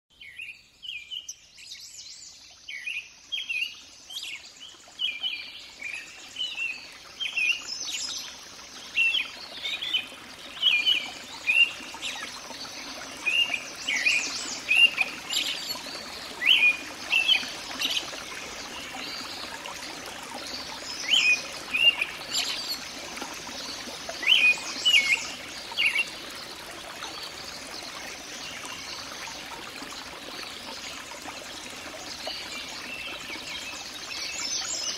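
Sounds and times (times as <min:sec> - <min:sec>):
running water rushing: 0:00.8 - 0:34.9.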